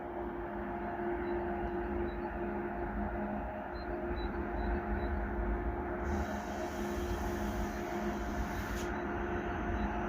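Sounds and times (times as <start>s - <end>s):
train rumbling with hum: 0.0s - 10.0s.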